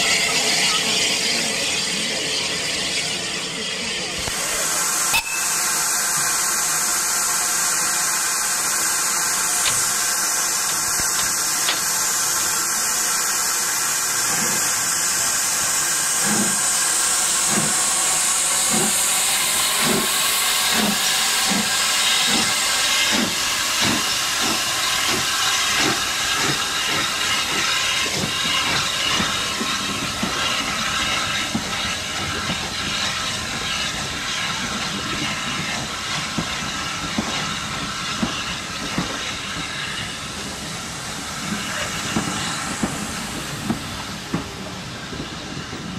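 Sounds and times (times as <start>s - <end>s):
steam locomotive hissing: 0.0s - 45.9s
locomotive exhaust chuffs: 5.5s - 45.9s.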